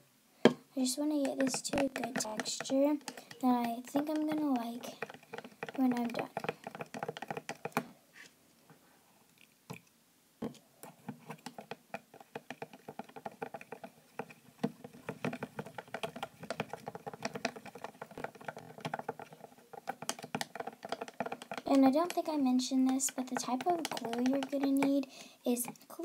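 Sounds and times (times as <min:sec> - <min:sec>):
chopstick tapping plastic tub: 0:00.5 - 0:07.9, 0:11.4 - 0:25.1.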